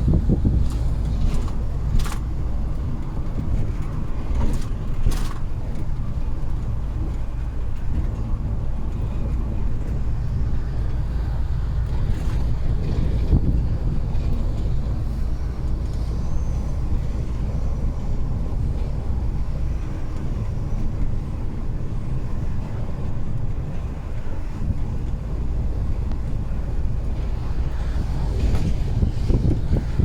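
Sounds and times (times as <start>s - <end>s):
heavy truck engine and road rumble: 0.0s - 30.0s.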